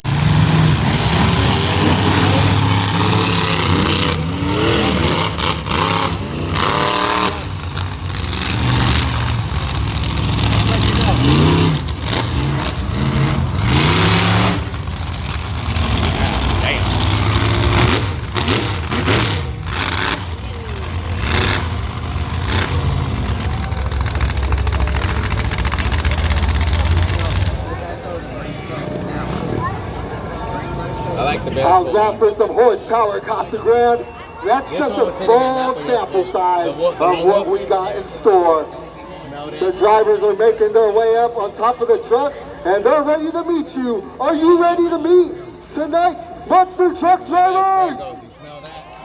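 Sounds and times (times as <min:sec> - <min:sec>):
monster truck engines revving: 0:00.0 - 0:49.0.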